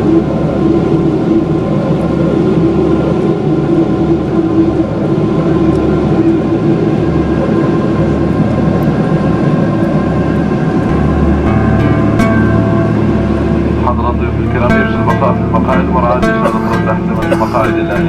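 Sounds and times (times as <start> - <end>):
jet cabin engine drone: 0.0 - 18.0
low hum with fixed tones: 0.0 - 18.0.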